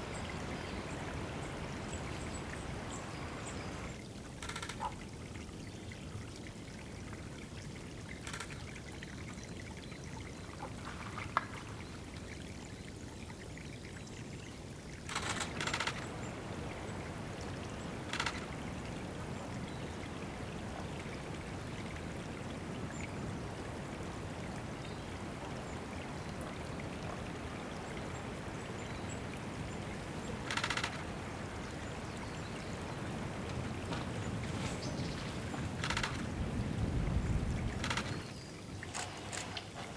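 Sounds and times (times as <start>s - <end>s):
water trickling into a pool: 0.0s - 39.9s.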